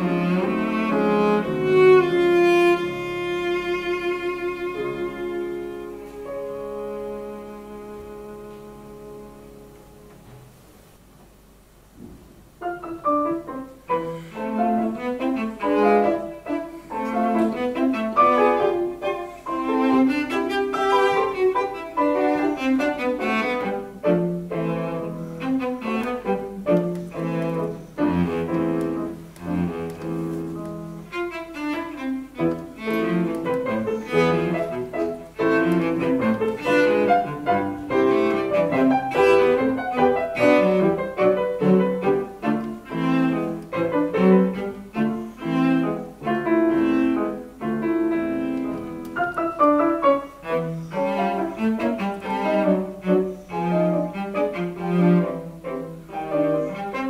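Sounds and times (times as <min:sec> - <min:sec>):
bowed cello: 0:00.0 - 0:10.5, 0:12.7 - 0:57.0
piano accompaniment: 0:00.0 - 0:57.0.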